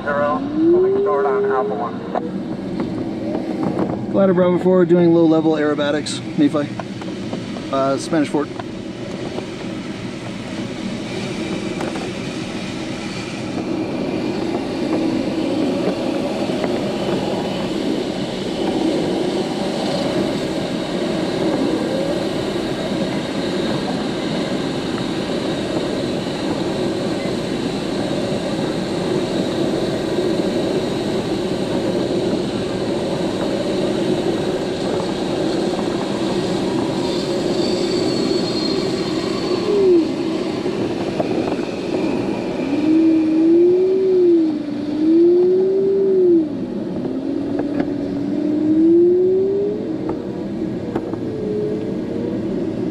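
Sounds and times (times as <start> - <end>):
wind rushing over glider: 5.9 - 37.5, 38.8 - 52.9.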